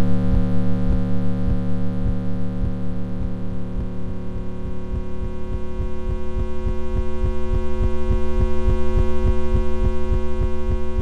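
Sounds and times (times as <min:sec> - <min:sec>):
low throbbing pulse: 0:00.0 - 0:11.0.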